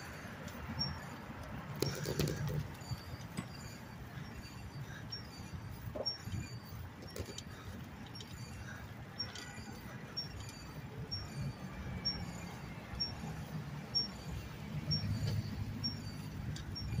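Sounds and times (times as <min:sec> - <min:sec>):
bicycle rumbling: 0:00.0 - 0:17.0
high-pitched squeaks: 0:00.8 - 0:17.0.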